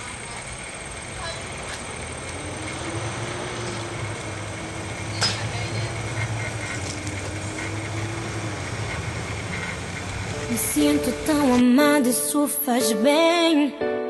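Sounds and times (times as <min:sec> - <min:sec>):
outdoor background noise: 0:00.0 - 0:12.1
low mechanical hum: 0:00.0 - 0:12.3.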